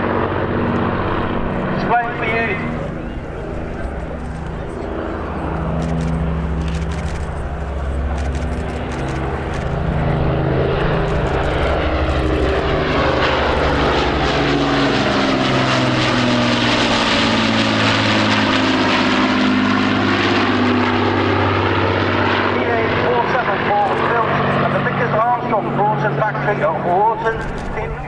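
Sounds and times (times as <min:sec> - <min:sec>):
propeller aircraft flying past: 0:00.0 - 0:28.0.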